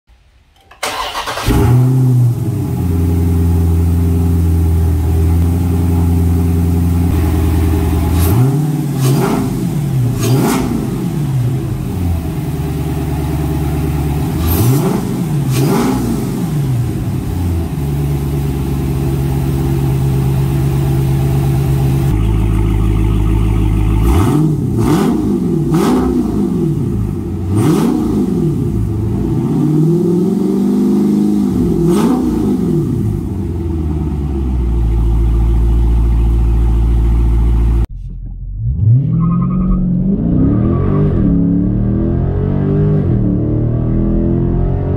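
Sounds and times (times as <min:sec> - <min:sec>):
car engine idling and revving: 0:00.8 - 0:44.9.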